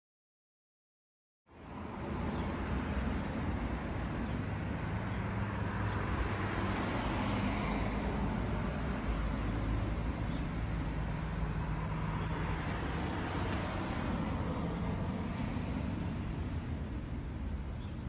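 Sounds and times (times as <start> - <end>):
distant road traffic rumble: 1.5 - 18.0.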